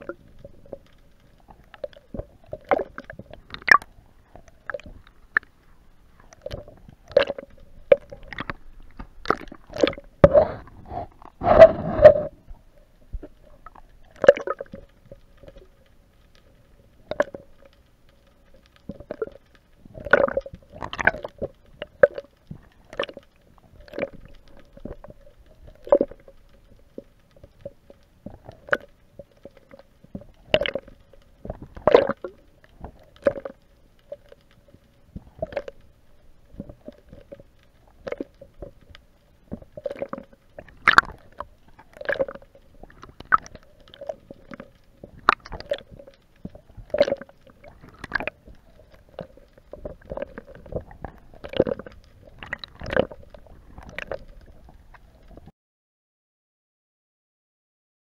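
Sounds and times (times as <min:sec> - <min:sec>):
faint steady hum: 0:00.0 - 0:55.5.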